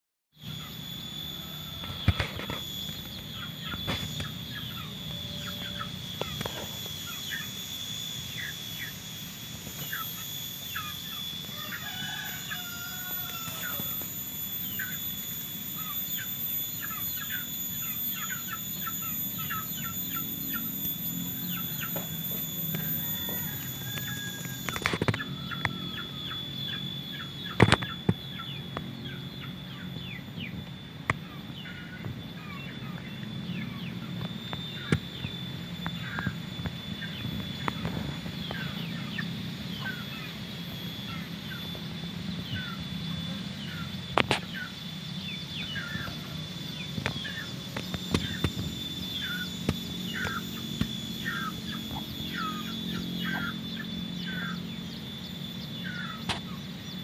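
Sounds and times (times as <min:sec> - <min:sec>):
steady high-pitched whine: 0:00.3 - 0:57.0
birds chirping: 0:00.4 - 0:57.0.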